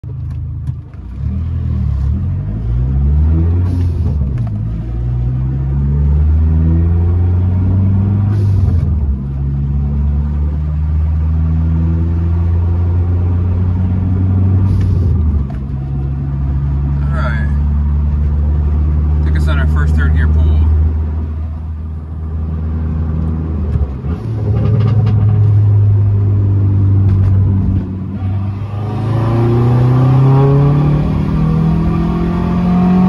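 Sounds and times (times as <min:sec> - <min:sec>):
car engine accelerating: 0:00.1 - 0:33.0.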